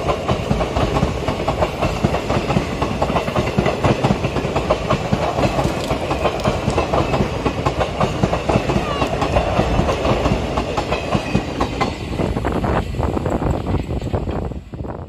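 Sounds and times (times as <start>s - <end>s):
train wheels clattering over rail joints: 0.0s - 12.4s.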